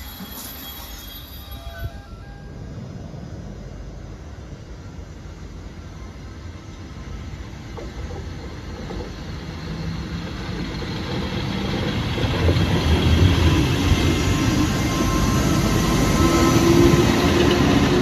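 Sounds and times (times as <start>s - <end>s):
train rumble approaching: 0.0s - 18.0s.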